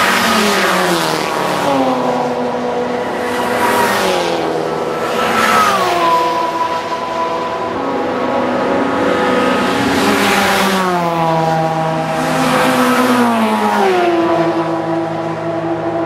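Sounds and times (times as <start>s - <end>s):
race cars passing at speed: 0.0s - 16.0s.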